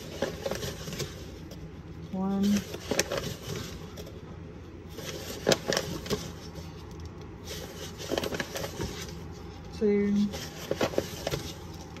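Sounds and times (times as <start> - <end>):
paper bag rustling: 0.0 - 1.6, 2.3 - 4.2, 4.8 - 6.8, 7.4 - 12.0.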